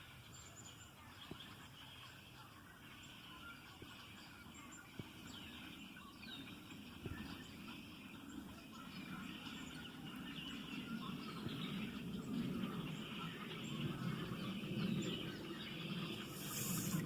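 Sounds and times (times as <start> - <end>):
flock of birds chirping: 0.0 - 17.0.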